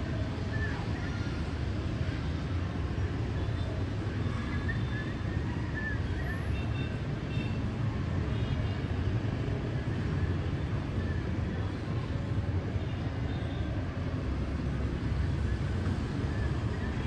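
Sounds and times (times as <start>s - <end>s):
city traffic hum: 0.0s - 17.0s.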